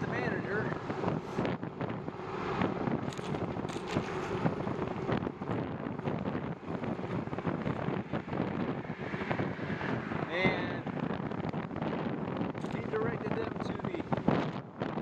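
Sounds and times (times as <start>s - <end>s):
wind gusting over microphone: 0.0s - 15.0s.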